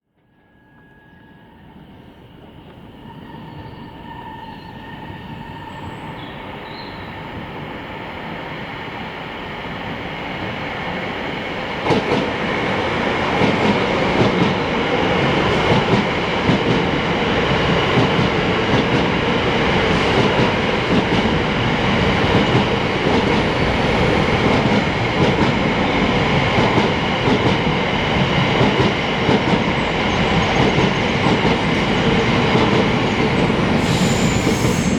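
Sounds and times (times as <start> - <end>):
high whine of train: 0.0 - 34.9
train wheels rumbling on rail: 1.7 - 34.9.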